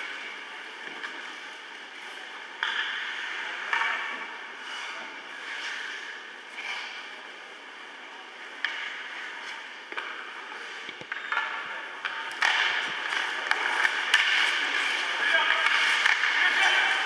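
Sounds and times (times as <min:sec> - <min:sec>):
hockey sticks and puck clacking: 0:00.0 - 0:17.0
skate blades scraping ice: 0:00.0 - 0:17.0.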